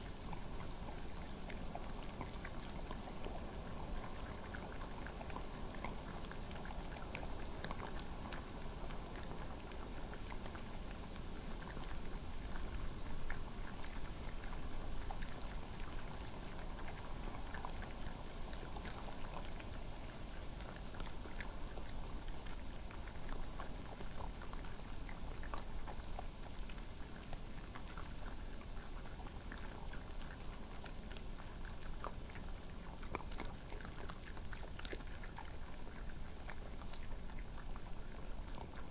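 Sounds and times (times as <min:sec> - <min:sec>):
animals crunching peanuts: 0:00.0 - 0:38.9
steady background hiss: 0:00.0 - 0:38.9.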